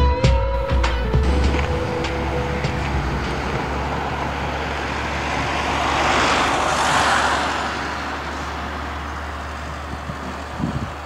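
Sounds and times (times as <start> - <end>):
steady low rumble: 0.6 - 11.0
vehicle passing by: 1.1 - 11.0.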